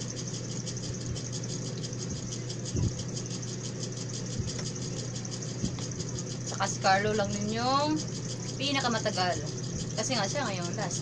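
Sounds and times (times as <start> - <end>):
fast even rattle: 0.0 - 11.0
steady low hum: 0.0 - 11.0.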